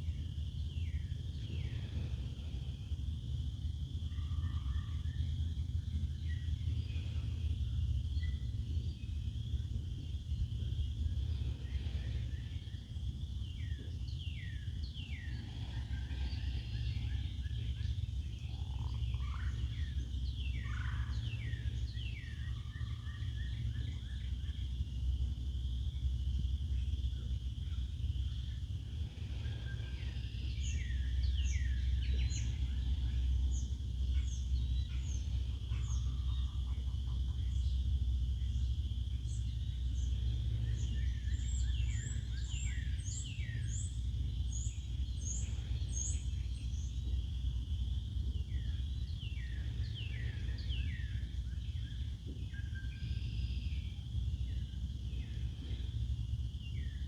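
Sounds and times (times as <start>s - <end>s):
constant low rumble: 0.0s - 57.0s
songbird chirps: 0.1s - 57.0s.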